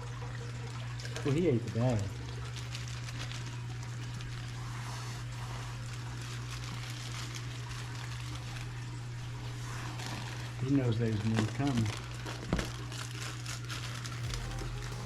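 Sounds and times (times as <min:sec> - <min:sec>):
water trickling: 0:00.0 - 0:13.2
aquarium filter pump humming: 0:00.0 - 0:15.0.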